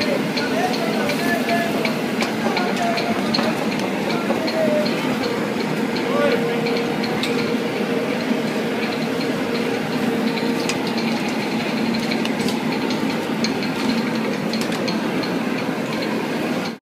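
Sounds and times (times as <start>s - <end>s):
kitchen hum and rushing noise: 0.0s - 16.8s.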